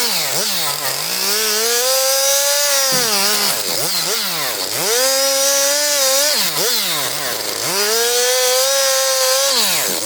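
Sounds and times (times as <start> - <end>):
chainsaw cutting wood: 0.0 - 10.0.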